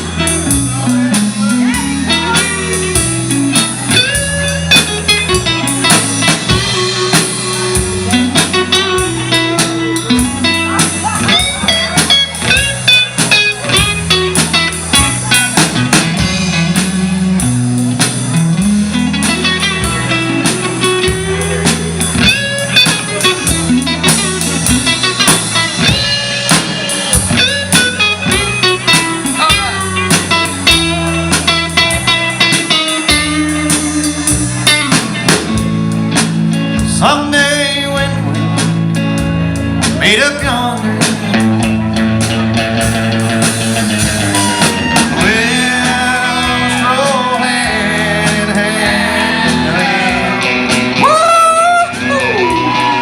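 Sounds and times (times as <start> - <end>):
drum kit: 0.0 - 53.0
guitar lead with bent notes: 0.0 - 53.0
stepping bass line: 0.0 - 53.0.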